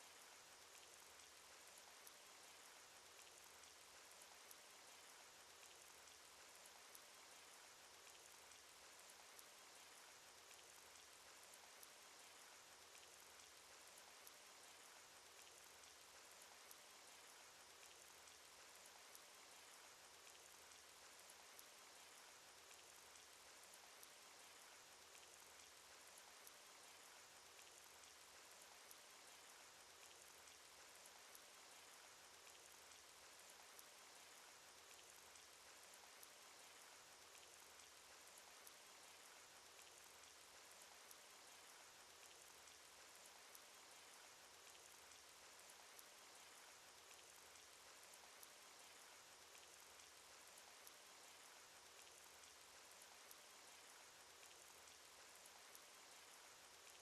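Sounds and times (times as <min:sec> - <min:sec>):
faint steady rain: 0:00.0 - 0:57.0.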